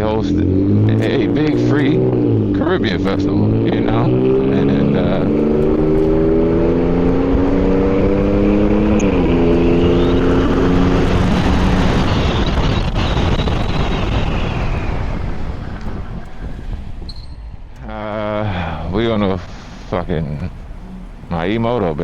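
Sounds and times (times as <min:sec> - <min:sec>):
electric motorcycle whine: 0:00.0 - 0:22.0
low hum: 0:00.0 - 0:22.0
wind rushing over microphone: 0:00.0 - 0:22.0.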